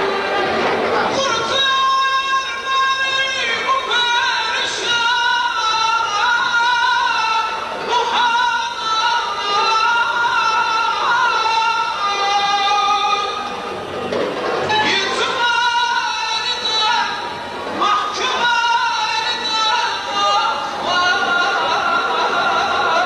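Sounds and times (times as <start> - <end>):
person singing into a microphone: 0.0 - 13.8, 14.4 - 23.0.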